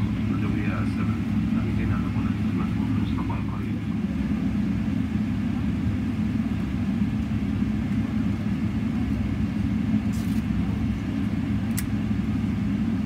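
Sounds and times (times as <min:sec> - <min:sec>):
low aircraft cabin rumble: 0:00.0 - 0:13.0.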